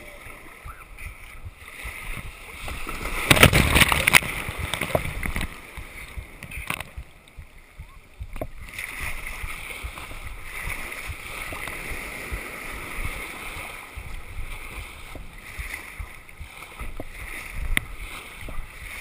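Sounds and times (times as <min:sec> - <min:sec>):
paddle splashes: 0:00.0 - 0:19.0
surf breaking and foaming: 0:00.0 - 0:19.0.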